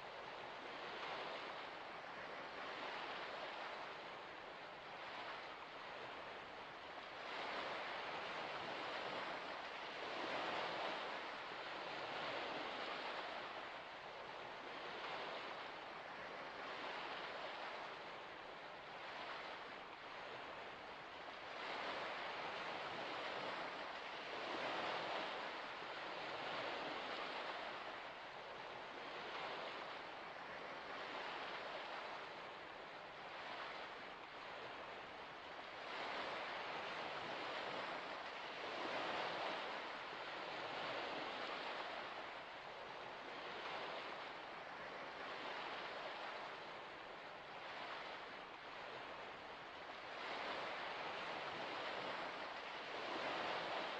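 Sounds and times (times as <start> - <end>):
small waves lapping at shore: 0.0 - 53.9.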